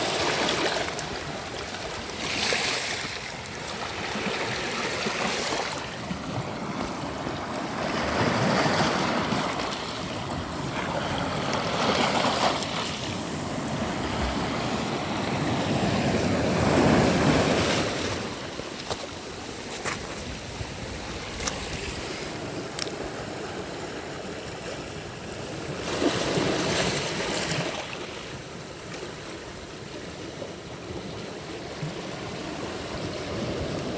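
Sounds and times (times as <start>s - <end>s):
sea waves breaking on beach: 0.0s - 33.9s.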